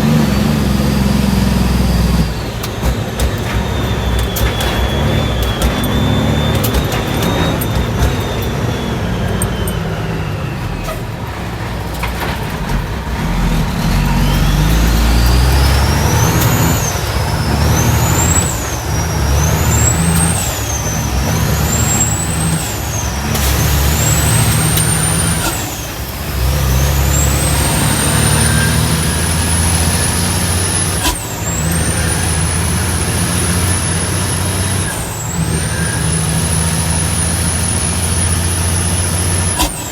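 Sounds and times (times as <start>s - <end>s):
diesel truck engine under load: 0.0s - 39.9s
high engine whine: 0.0s - 39.9s.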